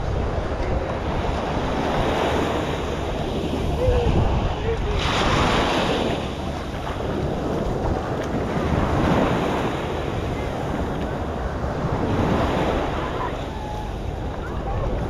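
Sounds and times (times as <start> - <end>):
wind buffeting microphone: 0.0 - 15.0
small waves breaking on sand: 0.1 - 15.0.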